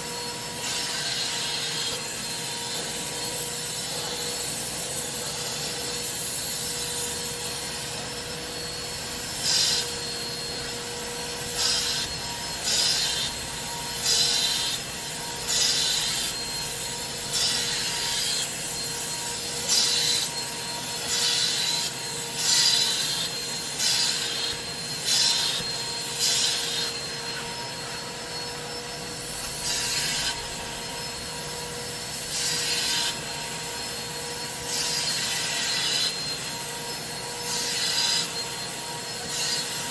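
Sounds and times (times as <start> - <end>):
cleaning machine hum: 0.0 - 39.9.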